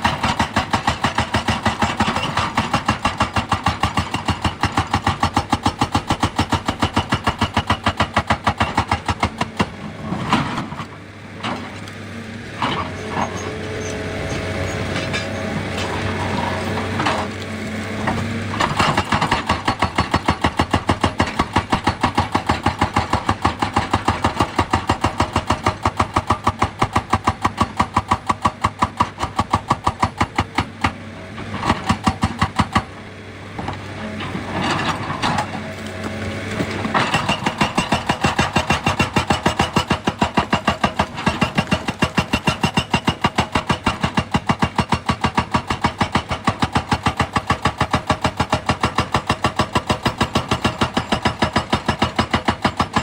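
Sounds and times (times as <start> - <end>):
hydraulic rock breaker hammering: 0.0 - 11.8, 12.6 - 53.0
excavator engine running: 0.0 - 53.0.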